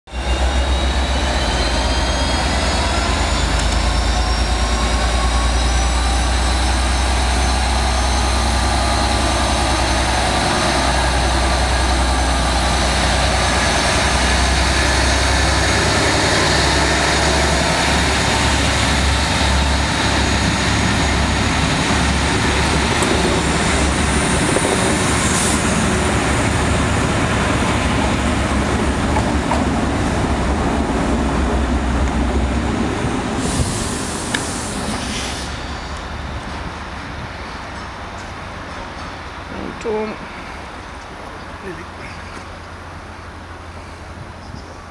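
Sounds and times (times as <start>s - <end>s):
diesel locomotive engine: 0.1s - 44.9s
train cars rolling past: 0.1s - 44.9s.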